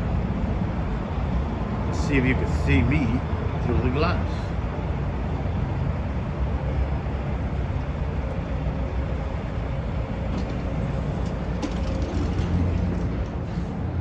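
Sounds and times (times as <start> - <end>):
vehicle engines idling: 0.0 - 14.0.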